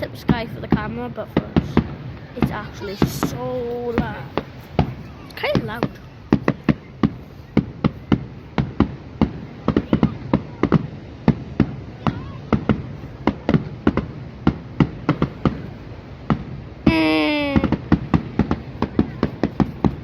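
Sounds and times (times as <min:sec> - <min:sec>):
fireworks banging: 0:00.0 - 0:20.0.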